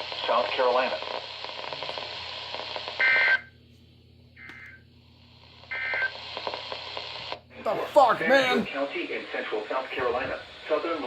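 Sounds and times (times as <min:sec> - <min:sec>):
radio hiss: 0:00.0 - 0:03.4, 0:05.4 - 0:11.0.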